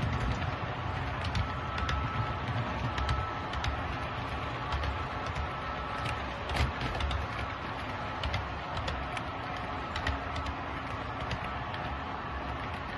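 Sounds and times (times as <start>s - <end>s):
light clicks of train wheels: 0.0s - 12.9s.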